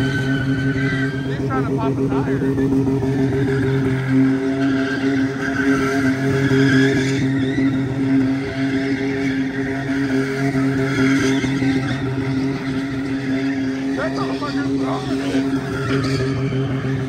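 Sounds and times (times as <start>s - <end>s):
tires screeching: 0.0s - 17.0s
truck engine revving: 0.0s - 17.0s.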